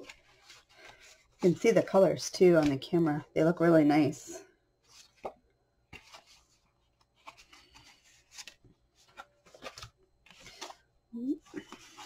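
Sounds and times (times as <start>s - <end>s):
paper cards rustling and scraping: 0.0s - 3.1s, 4.8s - 12.0s.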